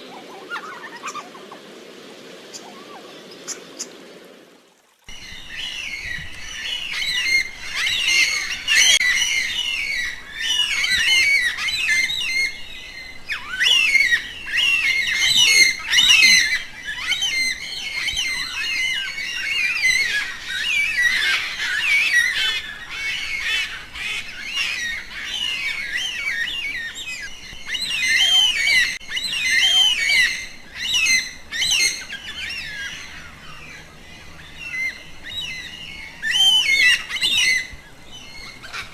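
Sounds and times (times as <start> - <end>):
birds chirping and squawking: 0.0 - 1.5, 5.1 - 38.9.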